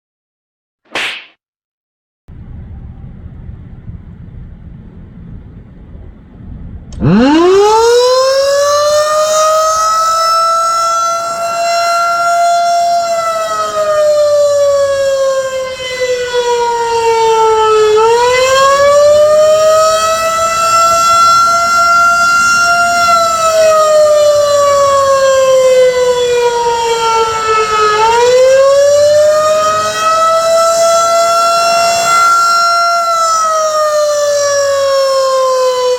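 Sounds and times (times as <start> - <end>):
tornado siren winding up and down: 2.3 - 35.9.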